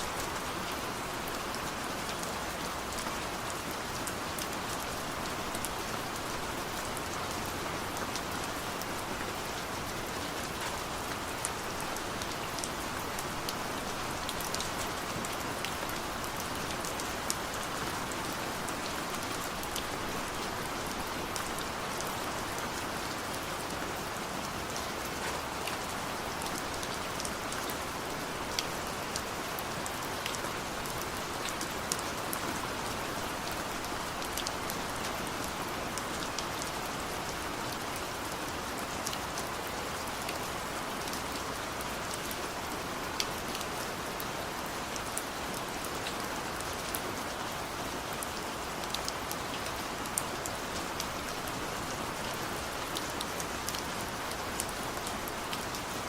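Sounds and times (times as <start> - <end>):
raindrops ticking on a surface: 0.1 - 56.0.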